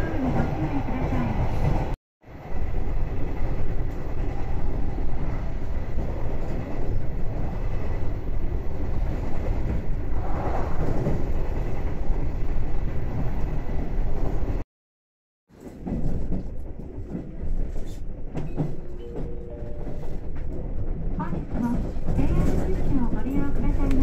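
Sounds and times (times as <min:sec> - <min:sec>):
wheels rumbling on rail: 0:00.0 - 0:14.6, 0:15.5 - 0:24.0.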